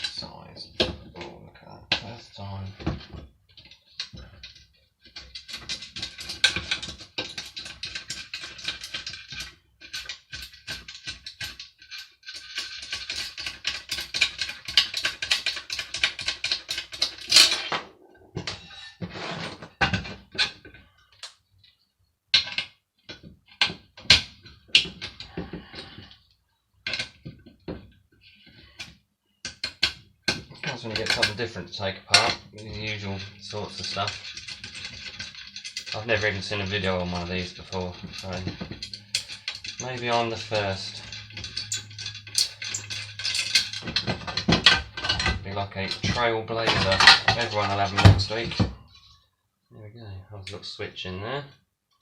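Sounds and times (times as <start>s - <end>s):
loose parts knocking and clattering: 0.0s - 49.2s.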